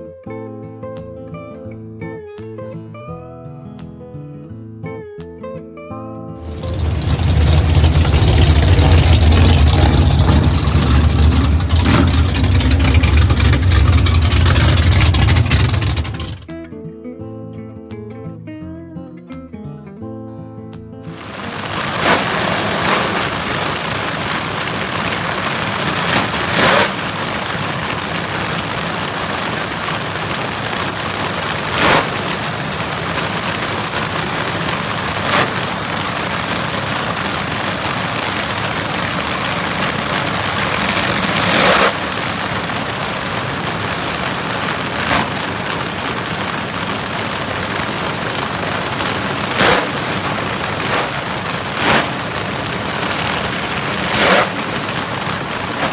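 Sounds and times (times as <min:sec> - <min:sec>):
car engine: 0:06.4 - 0:16.5, 0:21.1 - 0:55.9
road and wind noise: 0:06.4 - 0:16.5, 0:21.1 - 0:55.9.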